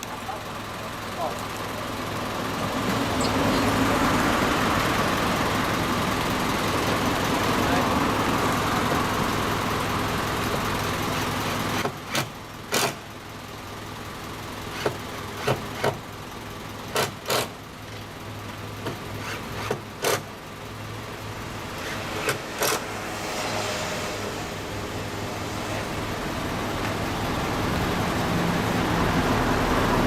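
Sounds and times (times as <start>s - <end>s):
traffic passing: 0.0s - 13.1s, 16.8s - 30.0s.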